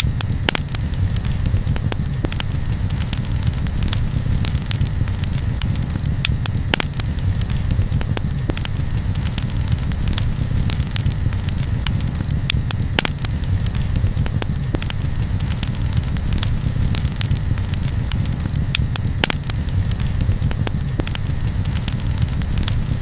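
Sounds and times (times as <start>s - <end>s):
campfire crackling and popping: 0.0s - 23.0s
low rumble: 0.0s - 23.0s.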